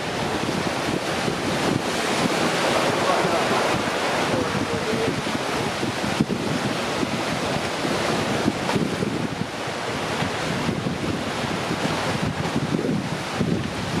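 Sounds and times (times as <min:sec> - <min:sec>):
sea surf: 0:00.0 - 0:14.0
wind on microphone: 0:00.0 - 0:14.0.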